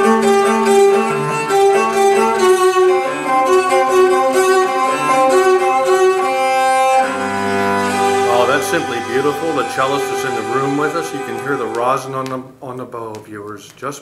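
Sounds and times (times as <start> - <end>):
bowed cello: 0.0 - 12.4.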